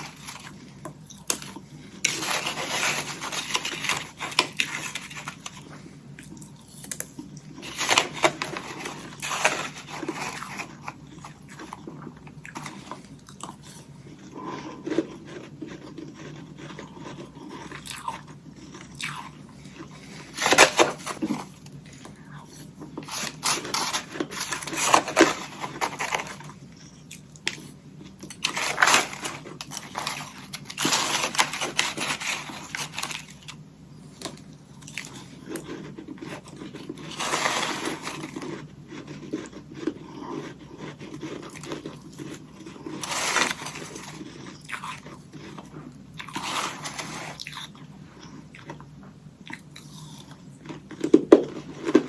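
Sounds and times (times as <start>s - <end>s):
person biting and chewing ice: 0.0s - 33.6s, 34.7s - 48.8s.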